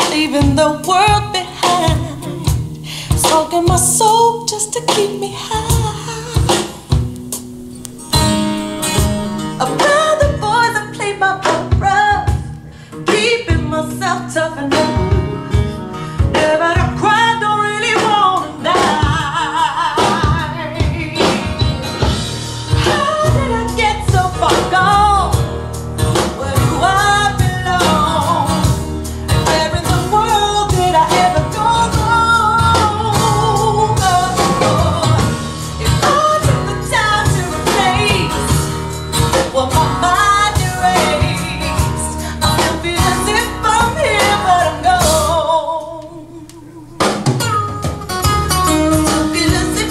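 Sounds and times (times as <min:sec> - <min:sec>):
song with singing and beat: 0:00.0 - 0:49.9.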